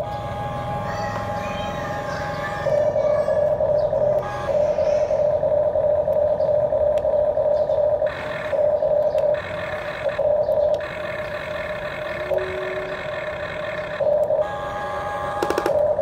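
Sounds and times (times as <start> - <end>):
higher motor whine: 0.0 - 16.0
toy excavator motors whining: 0.0 - 16.0.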